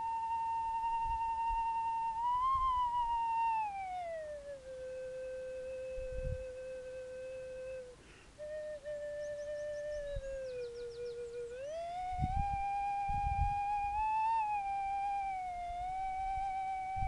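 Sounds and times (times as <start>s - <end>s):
sliding pure tone melody: 0.0s - 17.0s.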